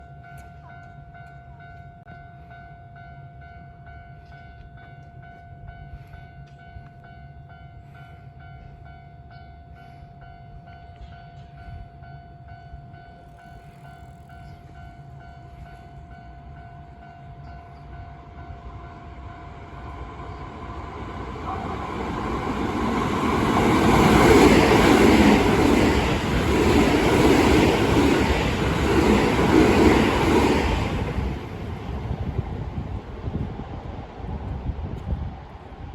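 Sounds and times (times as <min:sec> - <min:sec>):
level-crossing warning bell: 0:00.0 - 0:31.7
train passing with rumble: 0:04.8 - 0:35.9.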